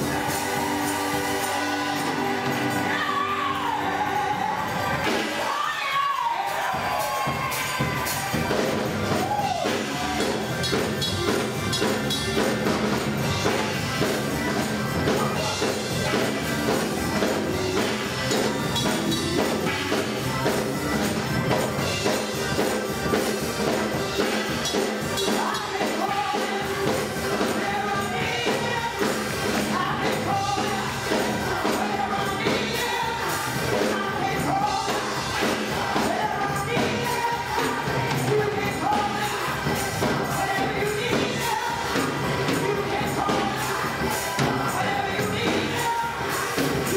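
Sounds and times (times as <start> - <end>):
instrumental accompaniment: 0.0 - 5.7, 6.4 - 46.9
gospel choir singing: 0.0 - 46.9
steady percussion beat: 0.0 - 46.9.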